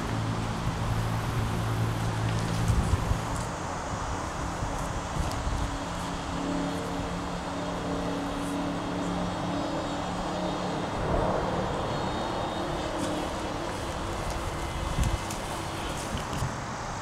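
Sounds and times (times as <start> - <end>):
distant engine droning: 0.0 - 17.0.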